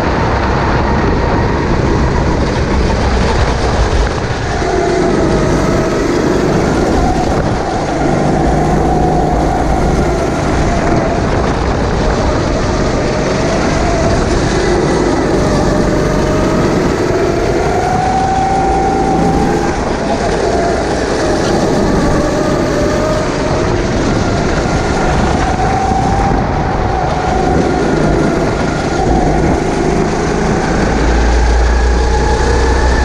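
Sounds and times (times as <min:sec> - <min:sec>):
go-kart engine running hard: 0:00.0 - 0:33.0
wind and road rush: 0:00.0 - 0:33.0.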